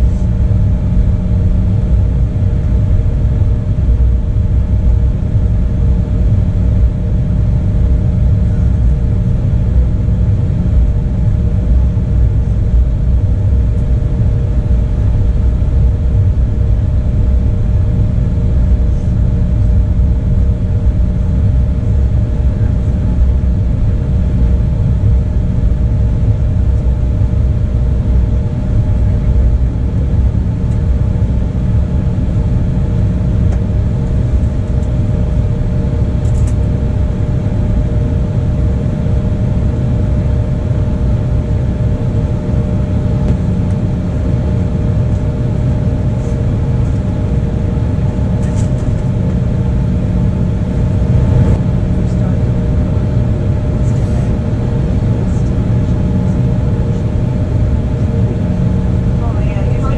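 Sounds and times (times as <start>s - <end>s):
jet cabin engine rumble: 0.0s - 59.9s
steady humming tones: 0.0s - 59.9s.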